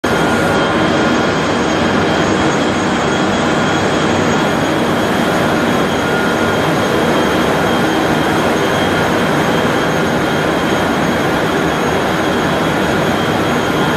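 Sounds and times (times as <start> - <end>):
high machine whines: 0.0 - 13.9
industrial machine noise: 0.0 - 13.9.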